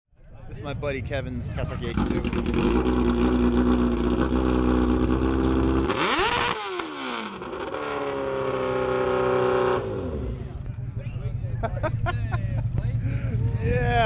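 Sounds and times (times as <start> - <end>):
motorcycle engine revving: 1.7 - 14.0.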